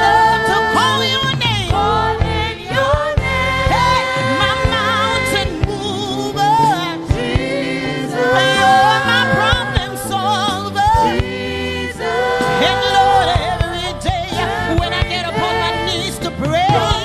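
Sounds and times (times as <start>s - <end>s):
backing singers: 0.0s - 17.0s
live band playing: 0.0s - 17.0s
woman singing gospel: 0.0s - 17.0s.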